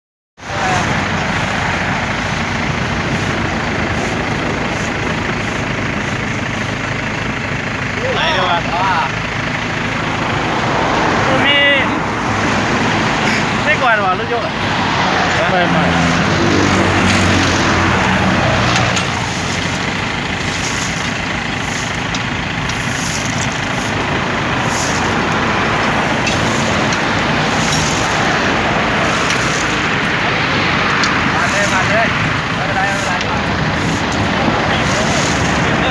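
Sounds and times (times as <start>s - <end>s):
road traffic noise: 0.4s - 35.9s
vehicle engine running: 0.4s - 35.9s.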